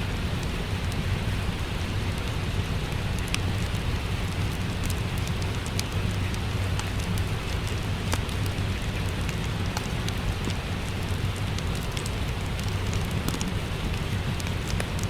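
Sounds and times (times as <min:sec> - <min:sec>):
steady rain falling: 0:00.0 - 0:15.0
wood fire crackling: 0:00.0 - 0:15.0.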